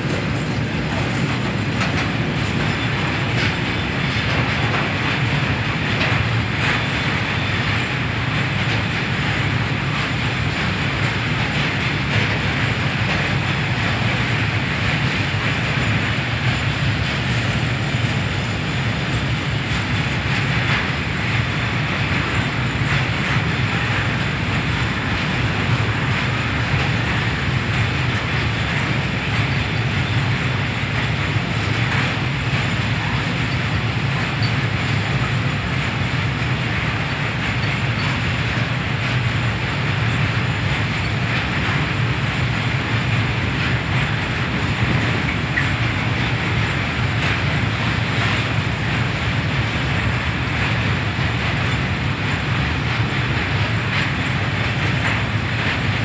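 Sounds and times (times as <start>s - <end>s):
ticks from rail joints: 0.0s - 56.0s
train wheels rolling on rail: 0.0s - 56.0s.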